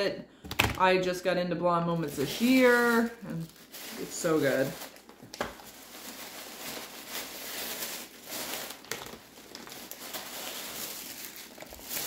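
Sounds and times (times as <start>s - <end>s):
plastic packaging crinkling: 1.9s - 12.0s.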